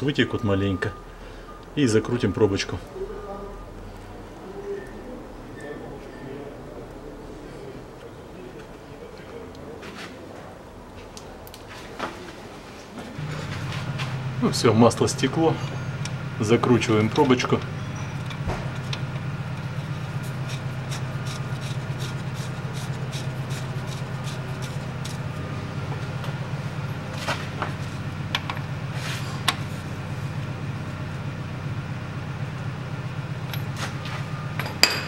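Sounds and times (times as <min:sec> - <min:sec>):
workshop low hum: 0:00.0 - 0:35.0.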